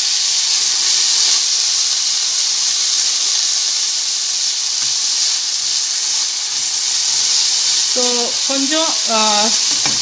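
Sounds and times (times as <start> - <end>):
vegetables sizzling in frying pan: 0.0 - 10.0.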